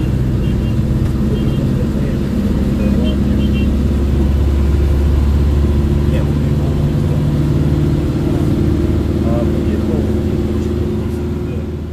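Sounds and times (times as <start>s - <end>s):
car engine rumble: 0.0s - 11.9s
road noise: 0.0s - 11.9s.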